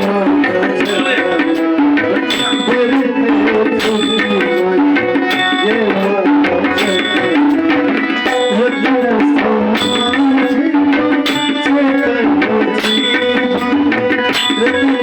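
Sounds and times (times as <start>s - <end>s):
tabla playing: 0.0s - 15.0s.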